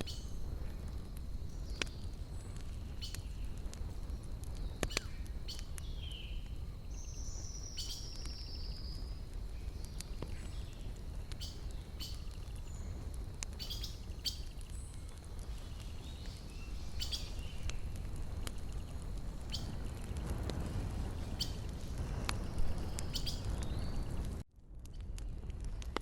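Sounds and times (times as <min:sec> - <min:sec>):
wood fire crackling: 0:00.0 - 0:26.0
small birds calling: 0:01.5 - 0:20.1, 0:21.2 - 0:21.7, 0:22.3 - 0:24.2.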